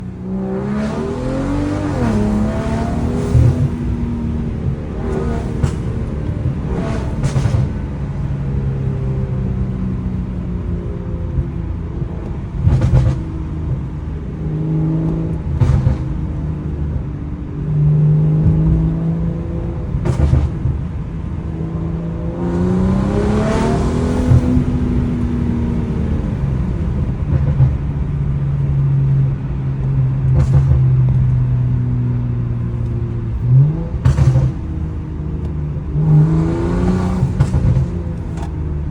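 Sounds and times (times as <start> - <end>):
loud exhaust bangs: 0.0 - 9.1, 11.2 - 16.9, 17.8 - 28.5, 29.4 - 38.9
car engine exhaust note: 0.0 - 38.9.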